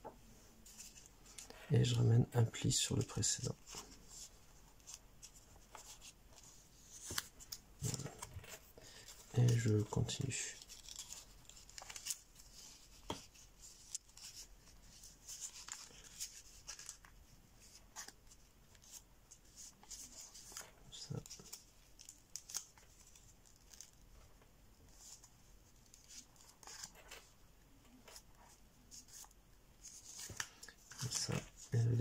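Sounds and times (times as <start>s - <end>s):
paper crinkling and rustling: 0.6s - 32.0s.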